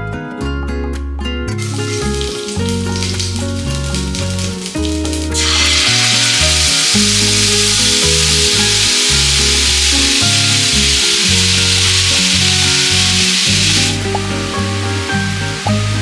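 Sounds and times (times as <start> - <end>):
background music: 1.6 - 16.0
food sizzling in oil: 1.6 - 16.0.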